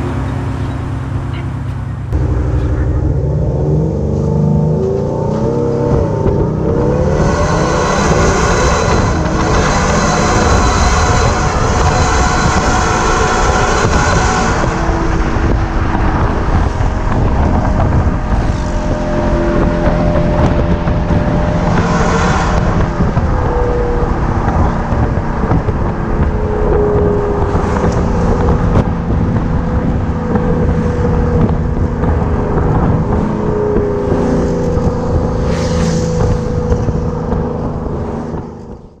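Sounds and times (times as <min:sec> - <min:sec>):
exhaust rumble: 0:00.0 - 0:39.0
wind and road noise: 0:00.0 - 0:39.0.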